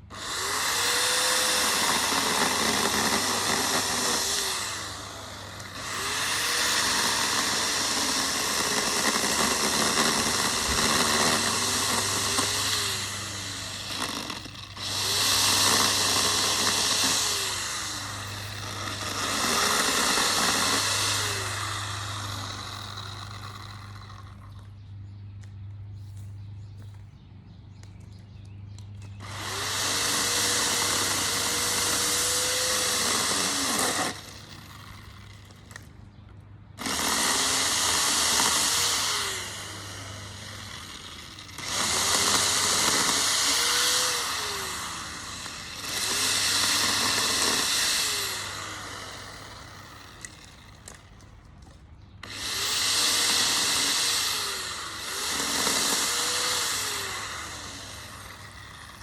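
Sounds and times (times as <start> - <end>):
small gas engine revving: 0.0 - 24.9, 29.1 - 51.2, 52.2 - 59.0.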